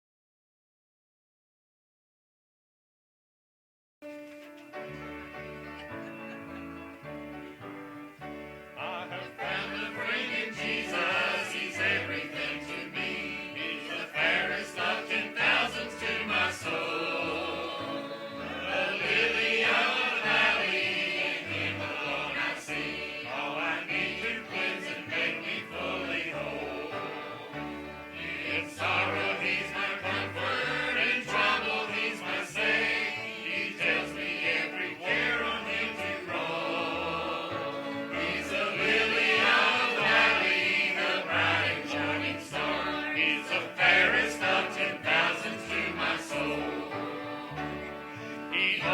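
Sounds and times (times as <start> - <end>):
instrumental accompaniment: 4.1 - 48.9
church choir singing: 7.0 - 48.9.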